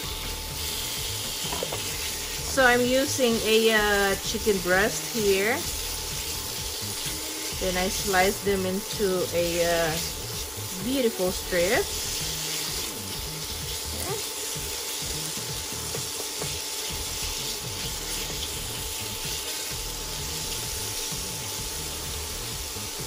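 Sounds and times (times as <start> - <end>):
meat and mushrooms sizzling in pan: 0.0 - 23.0.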